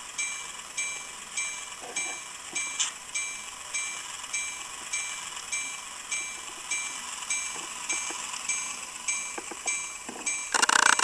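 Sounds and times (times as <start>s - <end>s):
locomotive bell ringing: 0.0s - 11.0s.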